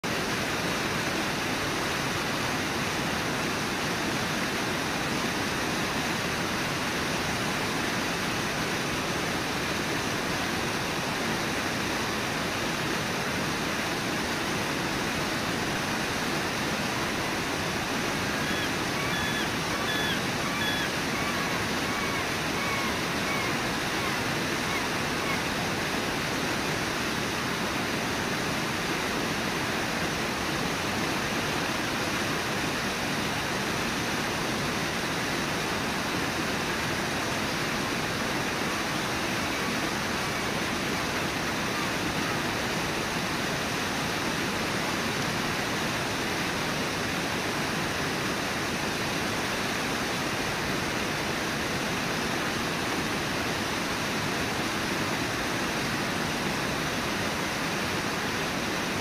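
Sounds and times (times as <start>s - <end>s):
waterfall rushing: 0.1s - 59.0s.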